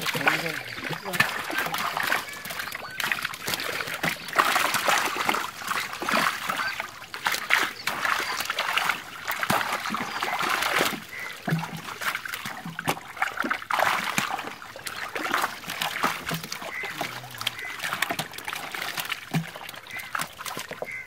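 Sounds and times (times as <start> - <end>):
fish splashing in water: 0.0 - 21.0.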